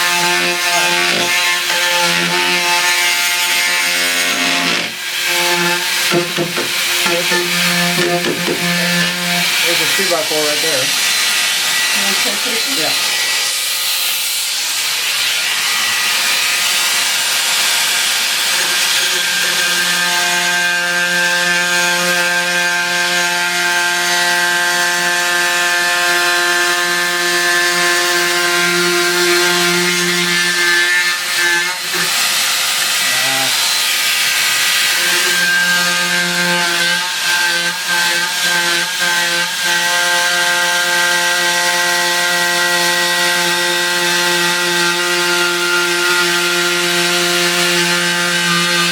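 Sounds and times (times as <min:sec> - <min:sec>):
power tool motor buzzing: 0:00.0 - 0:48.9
rasping sawing: 0:00.0 - 0:48.9.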